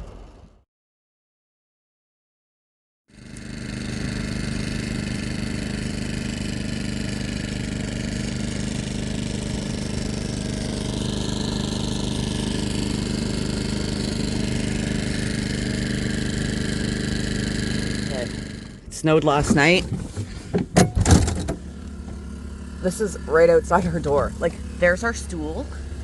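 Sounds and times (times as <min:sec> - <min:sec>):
engine idling: 0:03.2 - 0:26.0.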